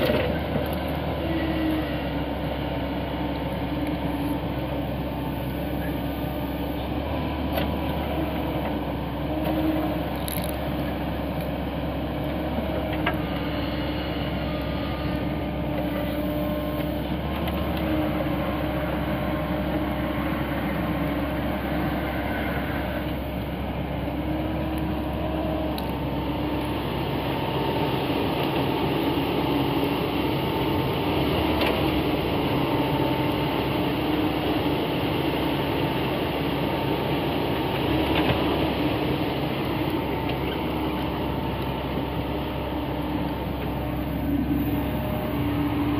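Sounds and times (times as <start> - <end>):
excavator diesel engine under load: 0.0 - 45.9.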